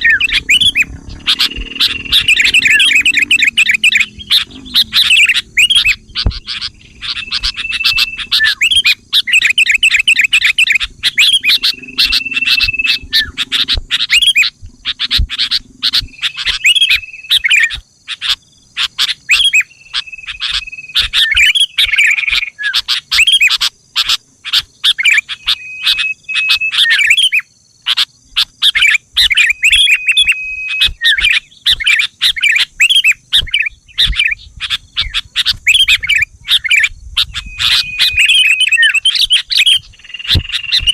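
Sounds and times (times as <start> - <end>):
bird chirping and chattering: 0.0 - 40.9.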